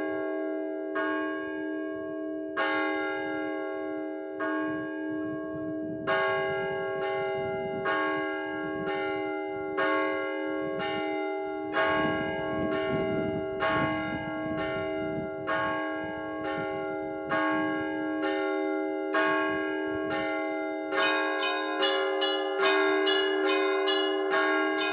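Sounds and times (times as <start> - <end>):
church bells pealing: 0.0 - 24.9.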